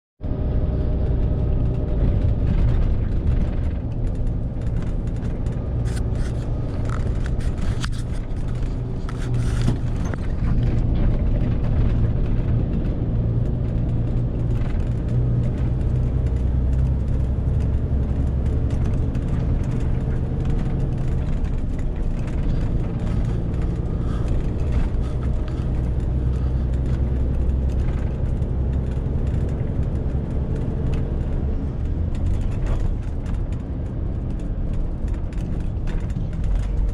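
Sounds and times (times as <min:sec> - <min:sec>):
truck diesel engine droning: 0:00.2 - 0:36.9.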